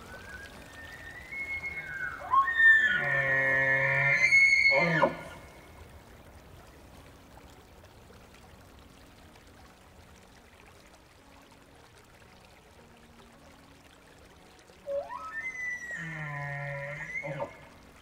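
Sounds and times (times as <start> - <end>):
shallow river flowing and splashing: 0.0 - 18.0.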